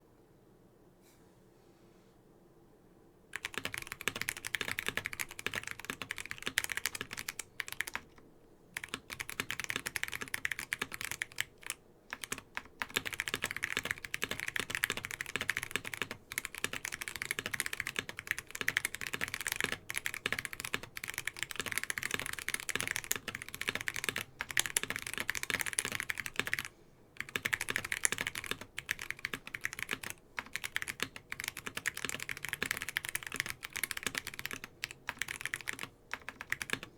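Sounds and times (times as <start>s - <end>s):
typing on mechanical keyboard: 3.3s - 8.2s, 8.8s - 36.9s.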